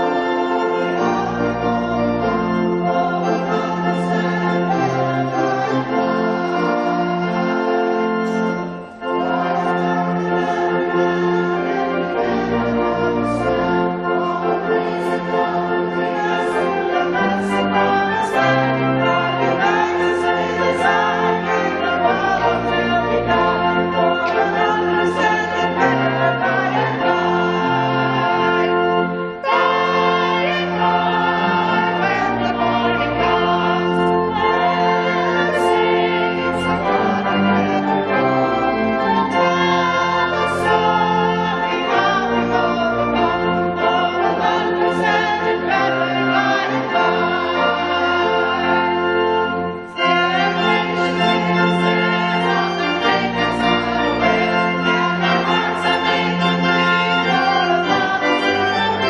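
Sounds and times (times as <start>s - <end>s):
choir singing a hymn: 0.0s - 59.0s
organ playing: 0.0s - 59.0s.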